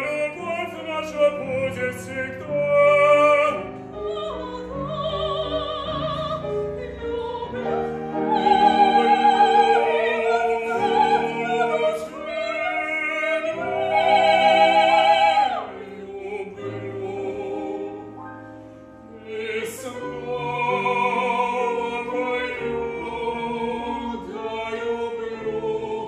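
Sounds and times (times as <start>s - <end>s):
operatic singing with vibrato: 0.0s - 18.2s, 19.0s - 26.0s
musical accompaniment: 0.0s - 26.0s.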